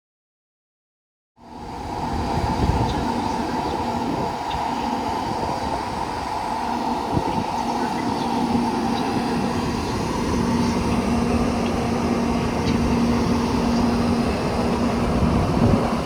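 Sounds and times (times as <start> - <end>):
electric train rolling: 1.4 - 16.0
steady hum: 1.4 - 16.0.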